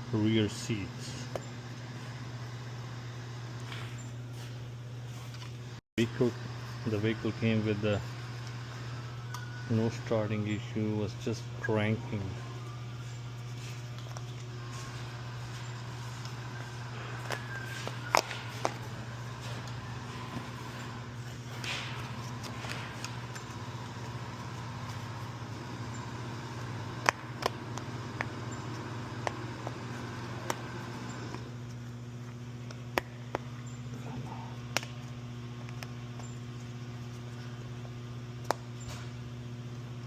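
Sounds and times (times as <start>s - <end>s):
low hum: 0.0s - 40.0s.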